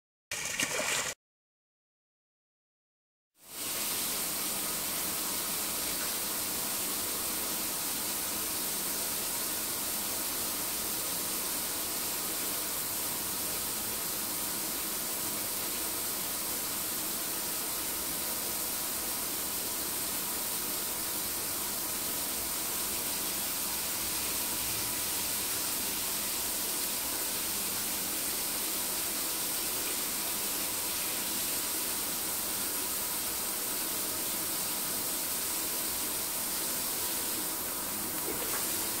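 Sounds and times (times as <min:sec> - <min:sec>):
steady hiss: 0:03.4 - 0:39.0.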